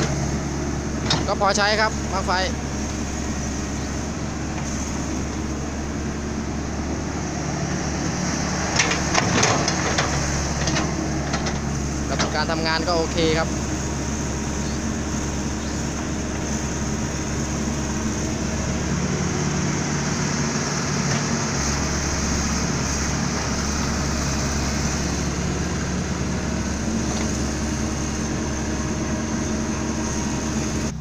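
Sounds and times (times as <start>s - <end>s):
dump truck engine running: 0.0s - 31.0s.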